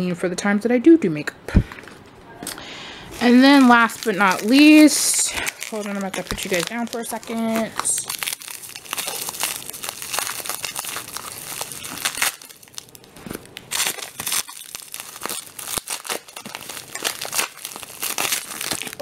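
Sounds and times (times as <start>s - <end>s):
packaging crinkling and rustling: 1.7s - 19.0s.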